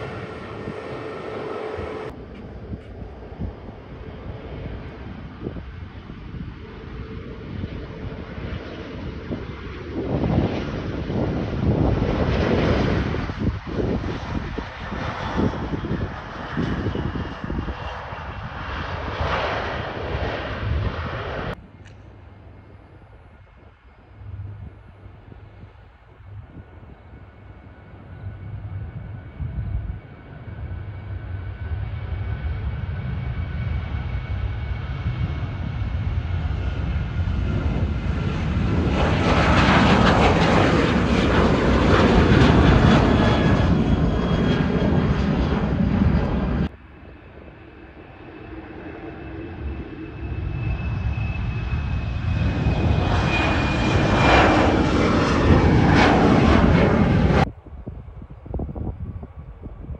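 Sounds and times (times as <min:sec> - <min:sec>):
jet engines at takeoff thrust: 0:00.0 - 0:59.9.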